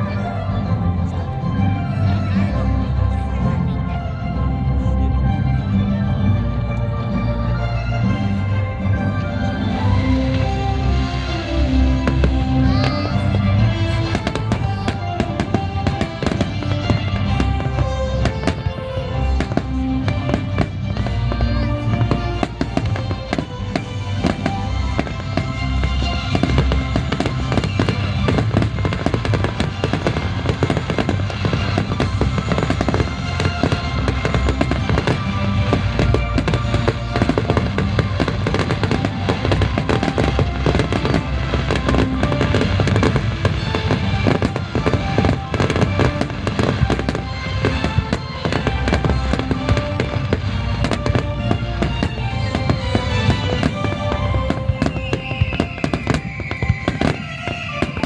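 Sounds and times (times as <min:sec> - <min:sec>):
fireworks bangs and crackles: 0:00.0 - 0:58.0
music playing: 0:00.0 - 0:58.0.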